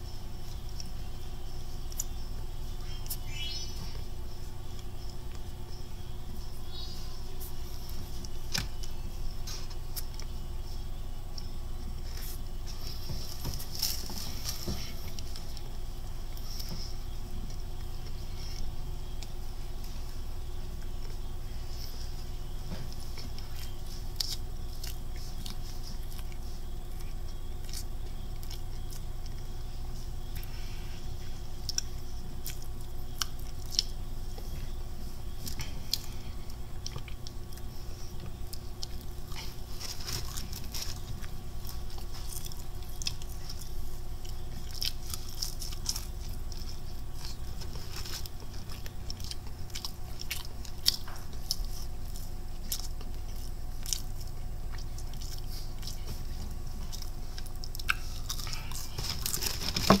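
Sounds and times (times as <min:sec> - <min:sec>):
chewing crunchy fried chicken: 0:00.0 - 1:00.0
steady low hum: 0:00.0 - 1:00.0.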